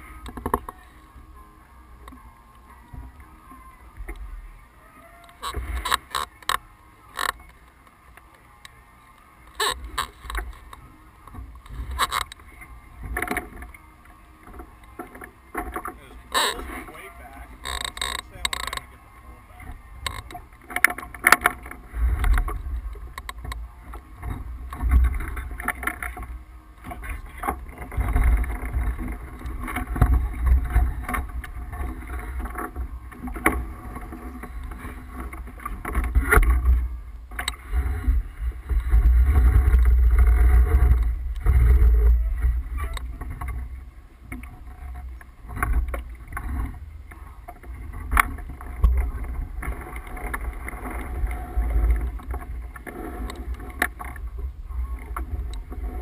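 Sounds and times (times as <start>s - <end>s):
water rushing along hull: 0.0s - 56.0s.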